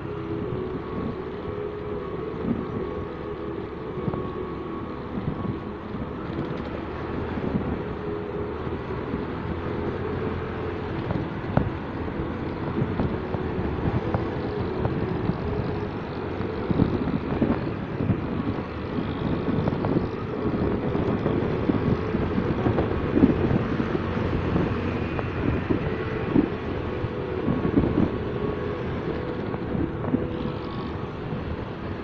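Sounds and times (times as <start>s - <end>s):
motorcycle engine and road rumble: 0.0s - 32.0s
wind buffeting microphone: 0.0s - 32.0s.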